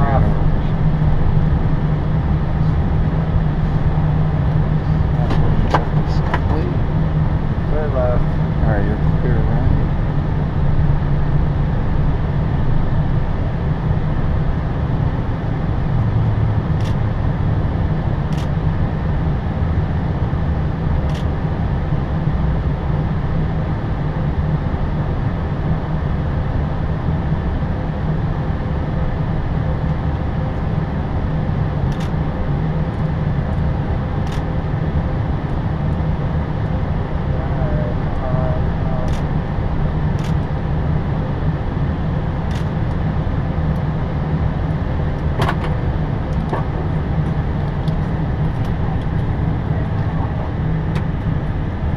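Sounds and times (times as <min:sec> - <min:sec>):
aircraft cockpit rumble: 0:00.0 - 0:51.9.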